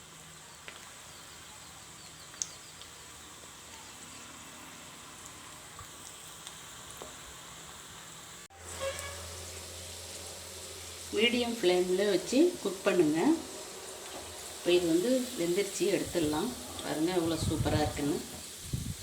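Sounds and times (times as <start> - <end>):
oil sizzling with pops: 0.0 - 19.0.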